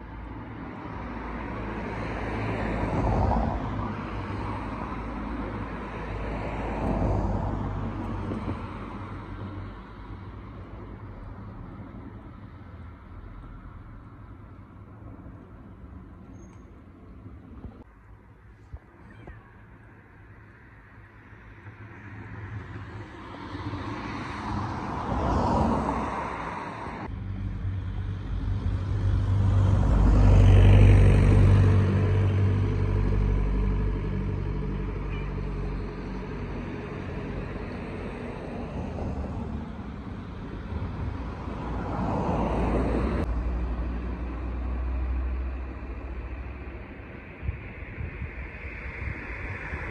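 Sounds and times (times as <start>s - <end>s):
vehicles passing: 0.0s - 49.9s.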